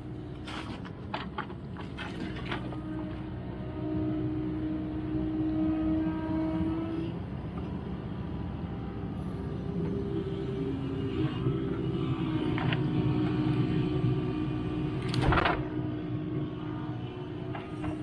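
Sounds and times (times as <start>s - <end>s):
excavator engine running: 0.0s - 5.8s, 6.7s - 18.0s.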